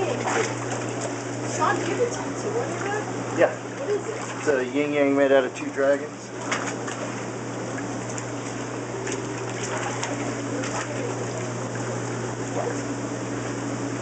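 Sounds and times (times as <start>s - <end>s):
hot tub pump humming: 0.0s - 14.0s
water churning and bubbling: 0.0s - 14.0s.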